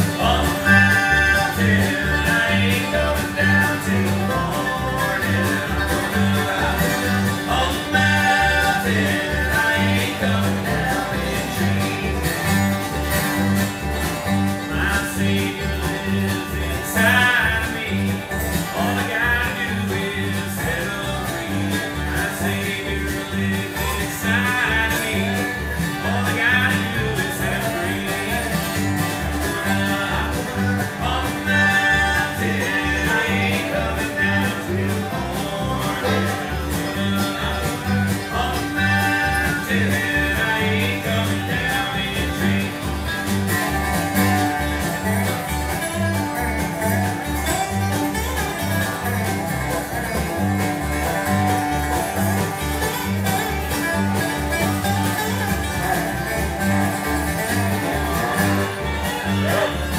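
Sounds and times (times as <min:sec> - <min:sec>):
bluegrass band playing: 0:00.0 - 0:59.9.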